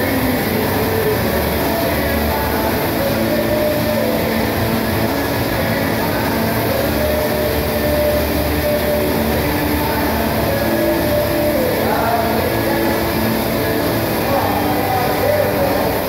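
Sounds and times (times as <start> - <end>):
drum fan roaring: 0.0 - 16.0.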